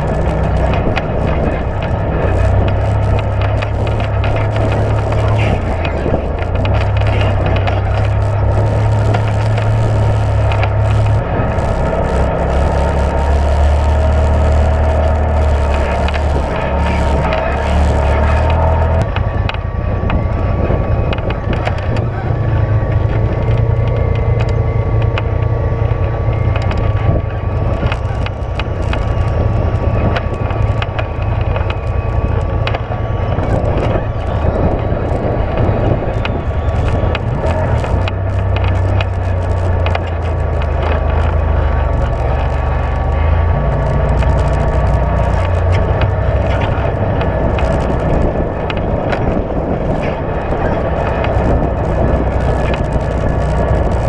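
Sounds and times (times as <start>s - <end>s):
clatters and knocks from bumps: 0.0s - 54.0s
off-road vehicle engine running: 0.0s - 54.0s.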